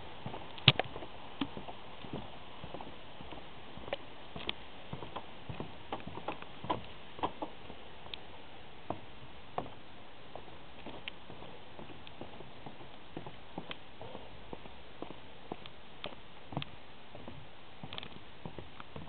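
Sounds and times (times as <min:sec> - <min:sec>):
footsteps on bridge deck: 0:00.0 - 0:19.0
steady hiss: 0:00.0 - 0:19.0.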